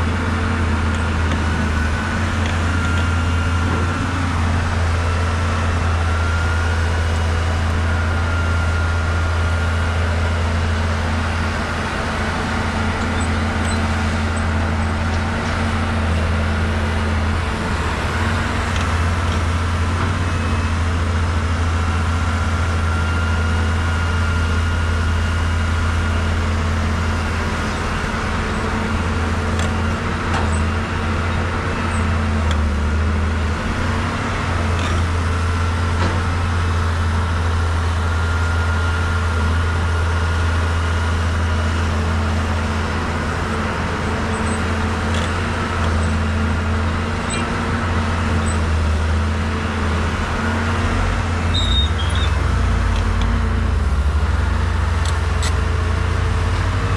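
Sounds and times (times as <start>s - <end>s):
excavator diesel engine drone: 0.0s - 56.9s.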